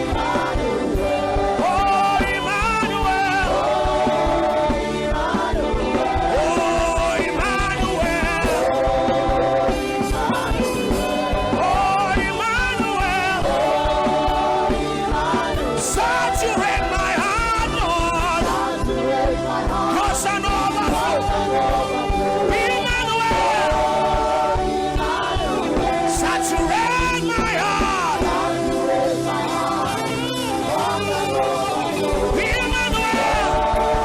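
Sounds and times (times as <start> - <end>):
person singing gospel: 0.0 - 34.0.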